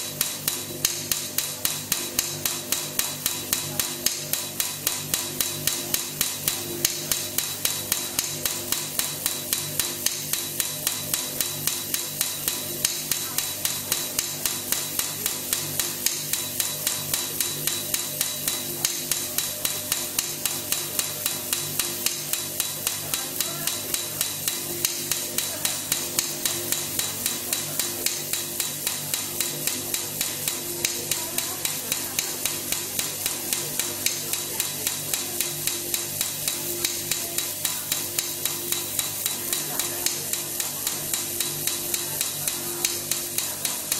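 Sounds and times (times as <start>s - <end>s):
sharp repeating click: 0.0s - 43.9s.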